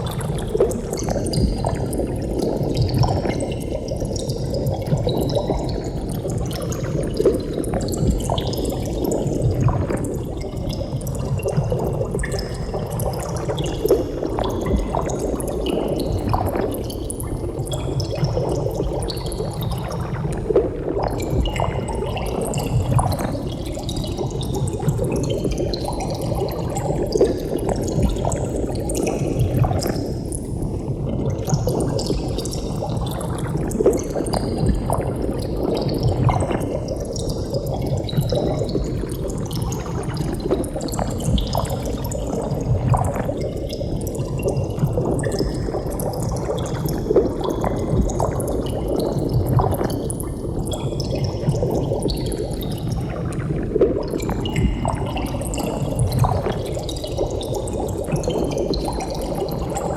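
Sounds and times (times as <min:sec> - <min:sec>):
air bubbles gurgling in water: 0:00.0 - 0:59.9.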